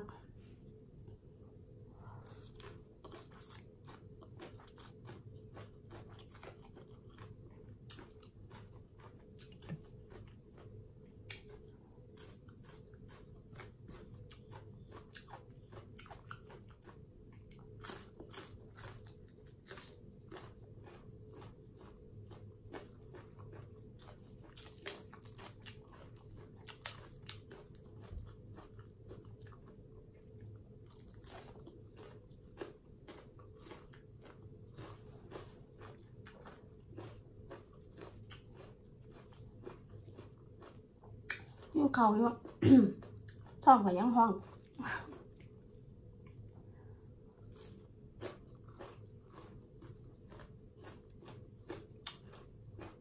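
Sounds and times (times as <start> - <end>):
person chewing and crunching food: 2.0 - 53.0.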